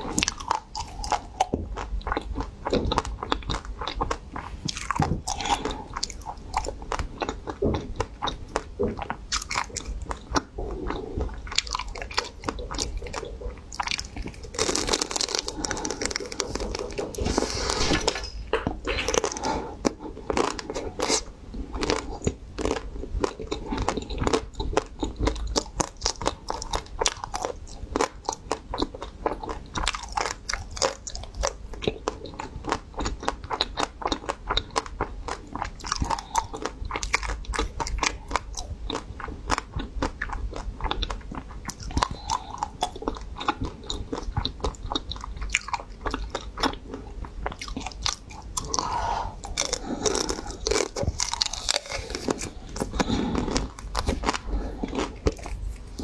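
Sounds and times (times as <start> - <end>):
crunching ice cream coating: 0.0 - 56.0.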